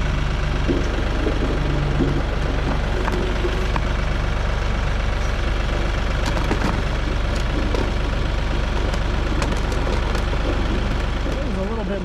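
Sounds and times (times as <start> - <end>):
potatoes tumbling knocks: 0.0 - 4.2, 5.8 - 11.6
tractor engine idling: 0.0 - 12.0.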